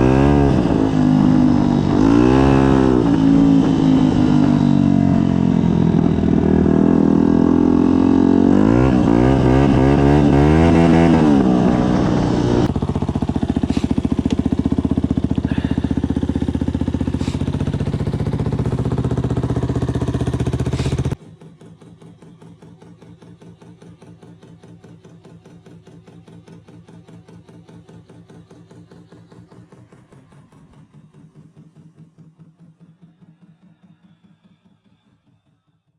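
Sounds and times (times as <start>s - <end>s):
motorcycle engine revving: 0.0s - 35.7s.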